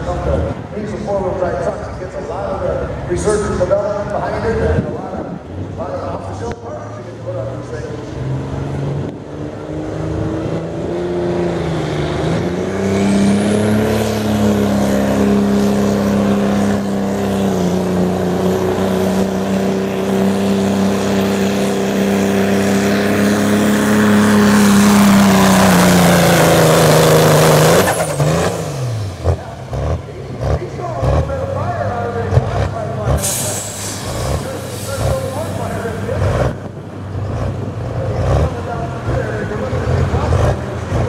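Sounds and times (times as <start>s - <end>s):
diesel truck engine revving: 0.0s - 41.0s.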